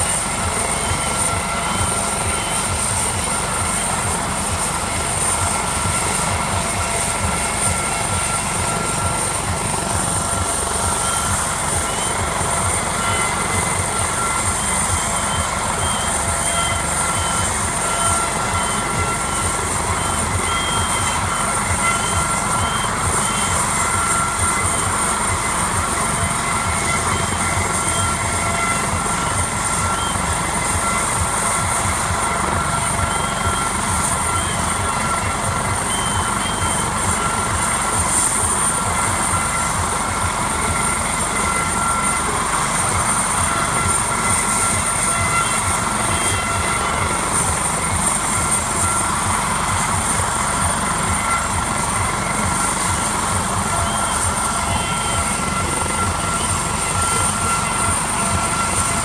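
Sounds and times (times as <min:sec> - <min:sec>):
helicopter turbine whine: 0:00.0 - 0:59.0
rotor blades beating: 0:00.0 - 0:59.0.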